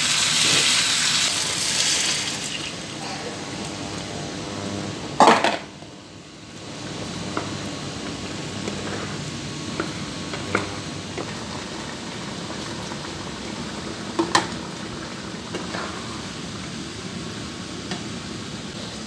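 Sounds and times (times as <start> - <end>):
food sizzling in frying pan: 0.0 - 3.0, 6.2 - 19.0.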